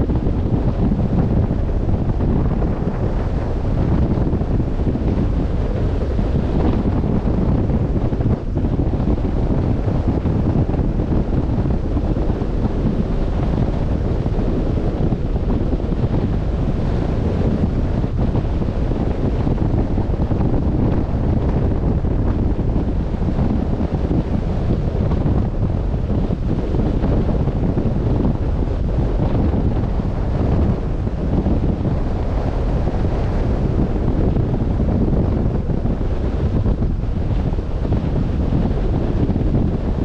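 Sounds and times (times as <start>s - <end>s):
open sea wash: 0.0s - 40.0s
wind rumbling on microphone: 0.0s - 40.0s.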